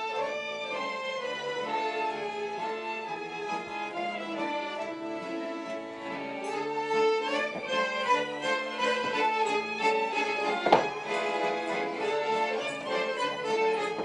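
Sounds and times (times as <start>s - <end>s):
accordion: 0.0s - 14.0s
violins playing melody: 0.0s - 14.0s.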